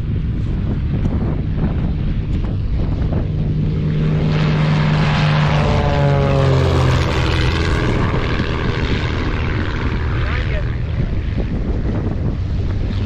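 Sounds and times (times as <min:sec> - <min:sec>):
propeller airplane passing: 0:00.0 - 0:13.0.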